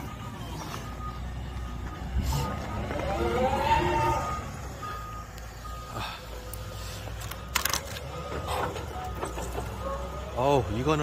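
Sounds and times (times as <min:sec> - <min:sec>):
excavator diesel engine running: 0:00.0 - 0:11.0
warning alarm beeps: 0:00.0 - 0:11.0.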